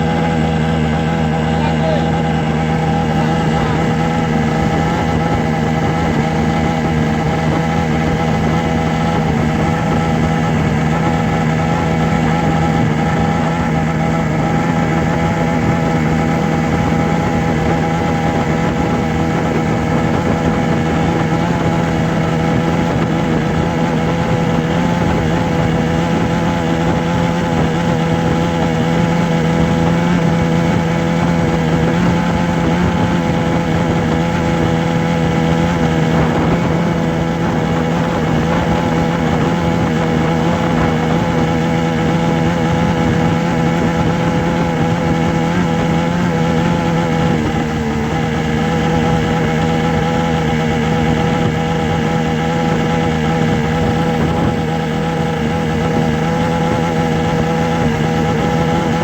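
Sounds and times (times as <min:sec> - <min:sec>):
steady engine-like drone: 0:00.0 - 0:59.0.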